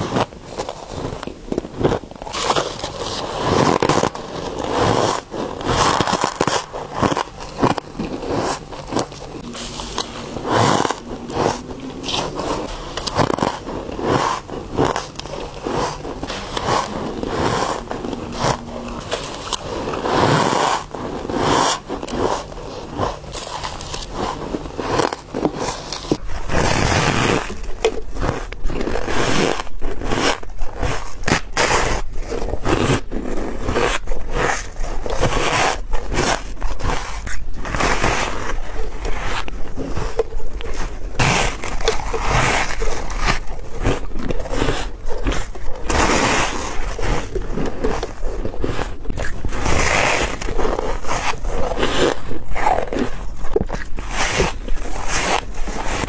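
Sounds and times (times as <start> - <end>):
biting and chewing ice: 0.0 - 56.0.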